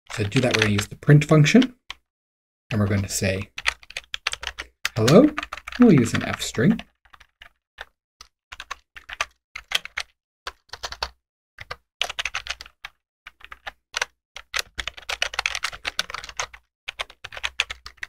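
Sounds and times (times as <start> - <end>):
typing on computer keyboard: 0.1 - 0.9, 2.8 - 18.0.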